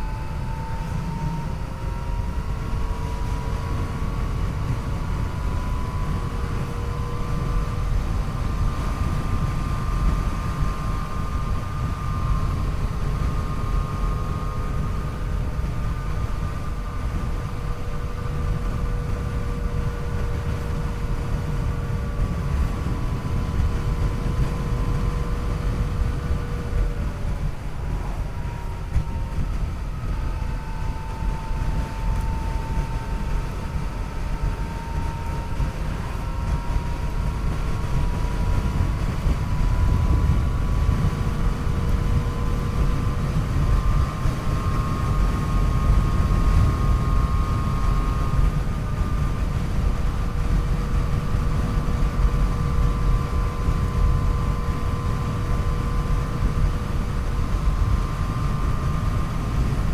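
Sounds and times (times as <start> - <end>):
thin high whine: 0.0 - 59.9
wind rumble on microphone: 0.0 - 59.9.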